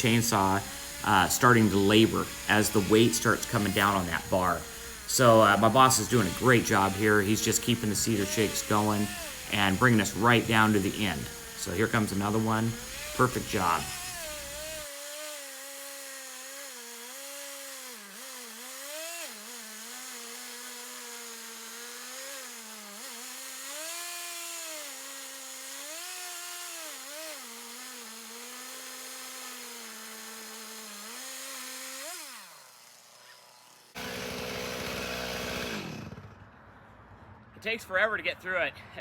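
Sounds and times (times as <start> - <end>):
chainsaw cutting through log: 0.0 - 36.5.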